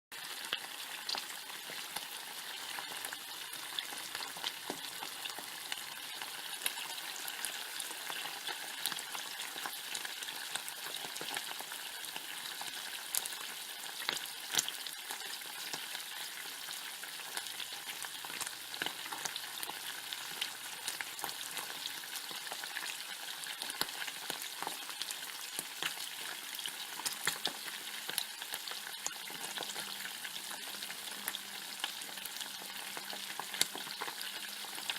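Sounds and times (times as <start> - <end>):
bacon sizzling with pops: 0.1 - 34.9.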